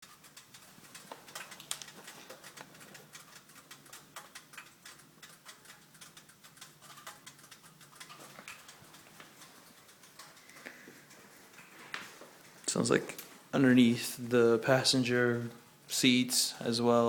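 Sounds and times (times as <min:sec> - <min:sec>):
faint steady hum: 0:00.0 - 0:17.0
rapid light ticking clicks: 0:00.0 - 0:17.0.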